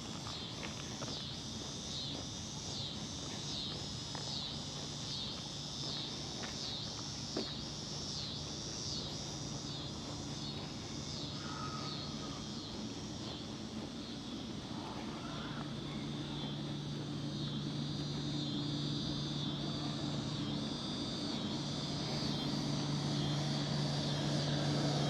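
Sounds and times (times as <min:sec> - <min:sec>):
cicadas singing: 0:00.0 - 0:25.0
low steady hum: 0:00.0 - 0:25.0.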